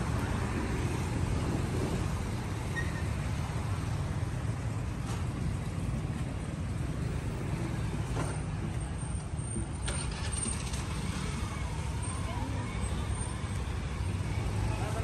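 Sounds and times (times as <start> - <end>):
traffic engines rumbling: 0.0 - 15.0.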